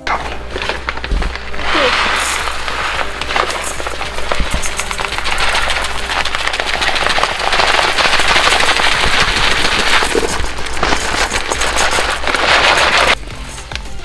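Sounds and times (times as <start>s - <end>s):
rice pouring into metal pot: 0.3s - 13.2s.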